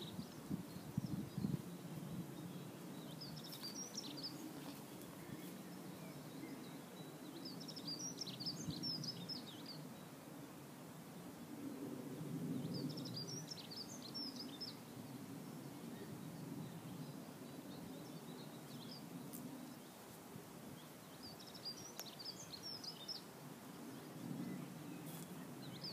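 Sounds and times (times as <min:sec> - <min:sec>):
songbird singing: 0:00.0 - 0:25.9.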